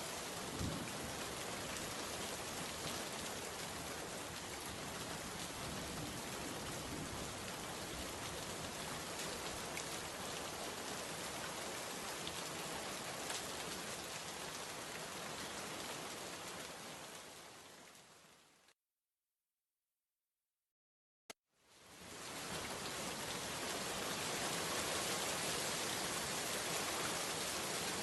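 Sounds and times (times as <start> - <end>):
rain falling on a surface: 0.0 - 18.8, 21.6 - 28.0.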